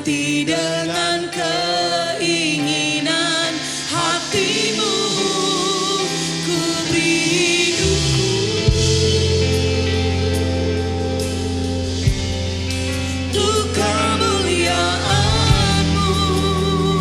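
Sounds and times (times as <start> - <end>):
voices singing worship song: 0.0 - 17.0
instrumental accompaniment: 2.6 - 17.0.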